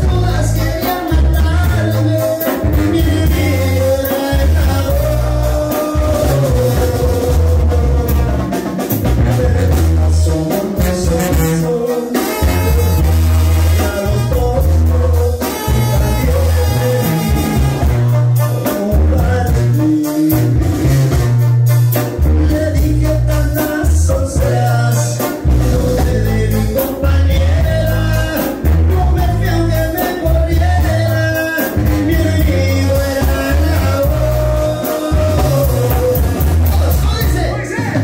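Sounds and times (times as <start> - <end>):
person singing: 0.0 - 21.2, 22.0 - 38.0
latin band music: 0.0 - 38.0
rhythmic bass line: 0.0 - 38.0.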